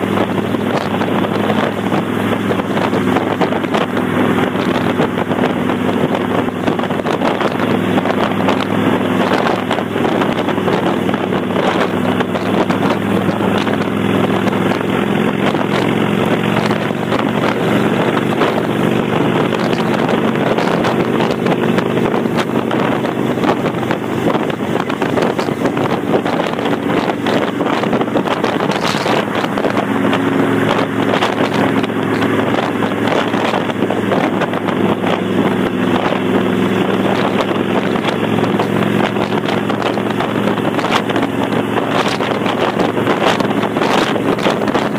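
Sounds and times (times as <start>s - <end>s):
motorcycle open exhaust running: 0.0s - 44.9s
wind on microphone: 0.0s - 44.9s.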